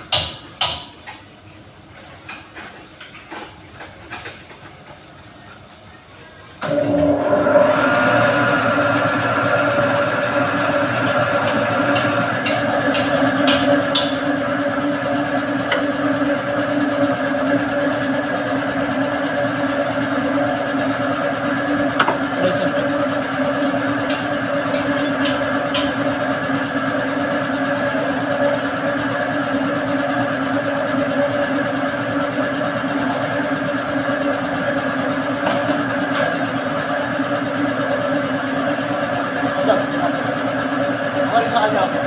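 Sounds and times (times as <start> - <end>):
engine running: 6.6 - 42.0.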